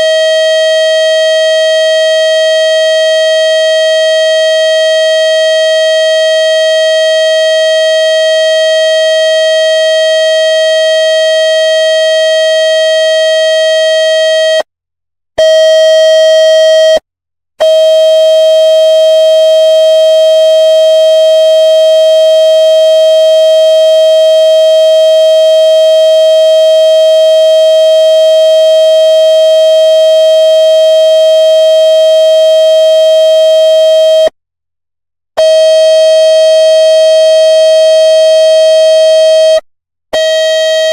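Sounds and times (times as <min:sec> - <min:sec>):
loud buzzing tone from phone speaker: 0:00.0 - 0:14.7, 0:15.4 - 0:17.0, 0:17.6 - 0:34.3, 0:35.4 - 0:40.9.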